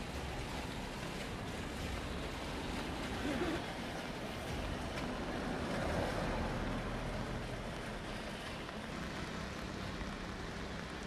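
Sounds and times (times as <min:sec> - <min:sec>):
flooded river: 0:00.0 - 0:11.0
heavy rain rushing: 0:00.0 - 0:11.0.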